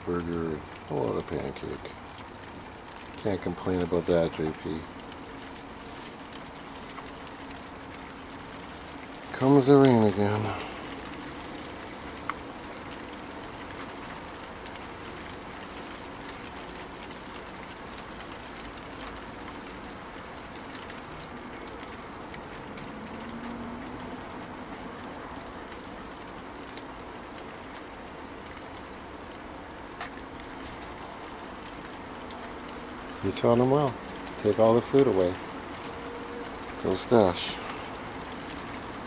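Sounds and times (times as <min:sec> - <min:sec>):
light rain falling: 0:00.0 - 0:39.0
sharp drip ticks: 0:00.0 - 0:39.0.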